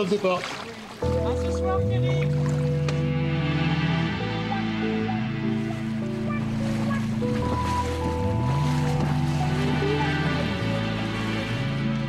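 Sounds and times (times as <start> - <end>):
background music of held notes: 1.0 - 12.0.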